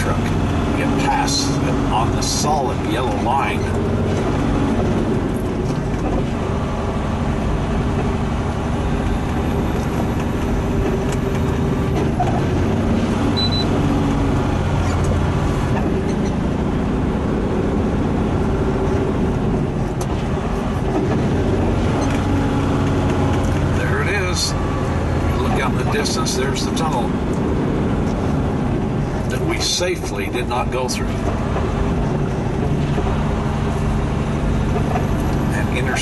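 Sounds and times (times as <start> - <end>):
diesel truck engine running: 0.0 - 36.0
road and tyre noise: 0.0 - 36.0.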